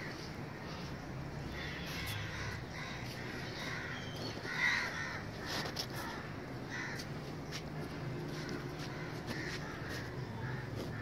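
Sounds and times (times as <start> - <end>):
flock of birds calling harshly: 0.0 - 7.1, 8.3 - 11.0.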